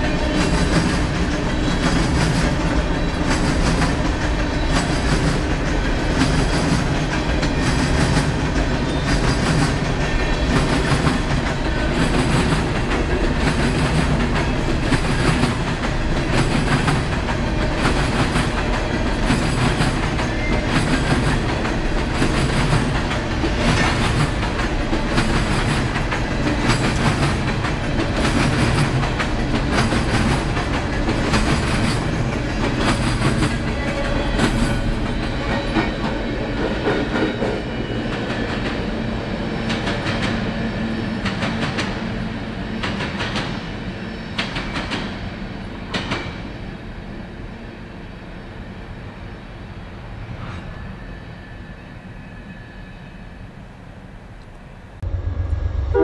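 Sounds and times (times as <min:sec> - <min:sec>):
train wheels clacking over rail joints: 0:00.0 - 0:46.5.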